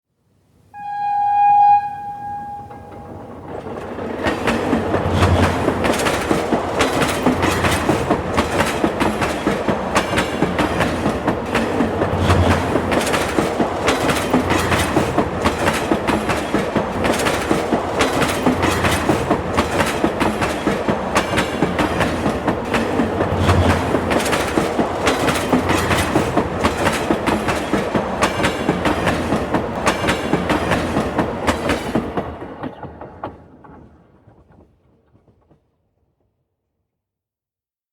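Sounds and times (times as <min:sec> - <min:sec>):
train rumble: 0:00.8 - 0:35.5
train wheels clacking on rails: 0:01.8 - 0:35.6.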